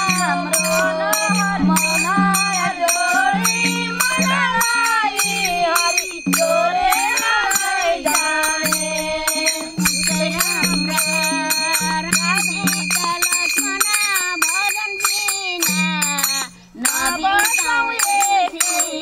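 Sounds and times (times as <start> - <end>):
small hand cymbals ringing: 0.0 - 19.0
women singing devotional song: 0.0 - 19.0.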